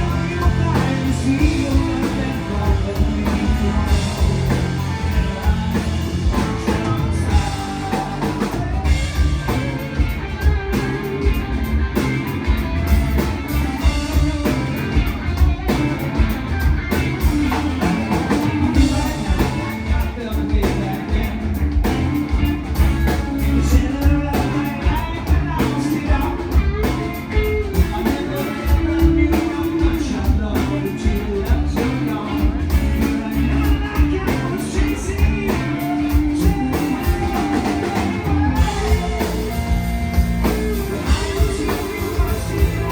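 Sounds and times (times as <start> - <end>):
person singing: 0.0 - 11.5, 17.2 - 42.9
rock band playing live: 0.0 - 42.9.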